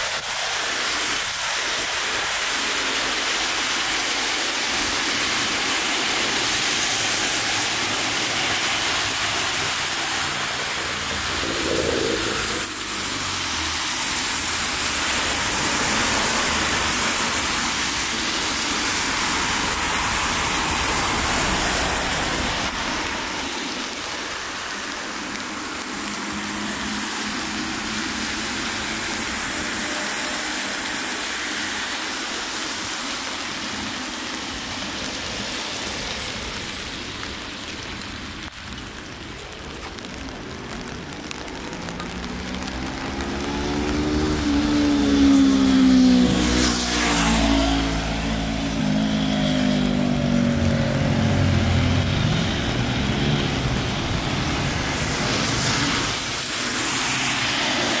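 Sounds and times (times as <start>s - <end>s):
rain on wet streets: 0.0s - 58.0s
road traffic rumble: 0.1s - 58.0s.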